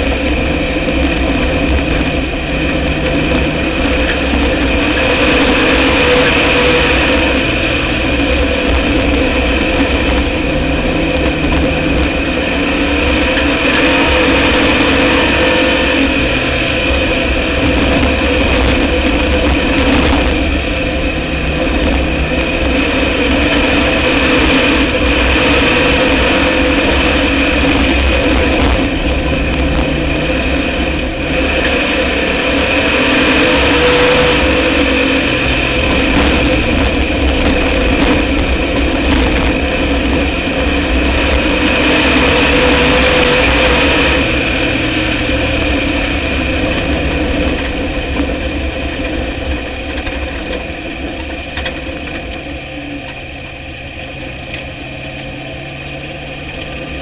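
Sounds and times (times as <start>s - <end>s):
race car engine running: 0.0s - 57.0s.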